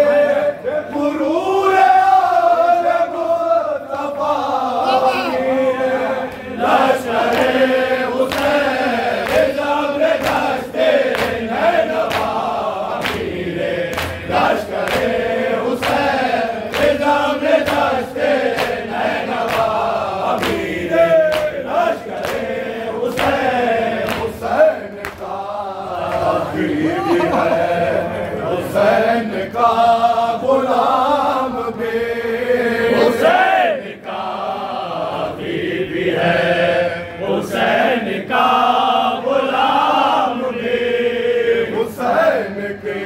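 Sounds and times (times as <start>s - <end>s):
lead reciter chanting: 0.0s - 43.0s
men chanting in unison: 0.0s - 43.0s.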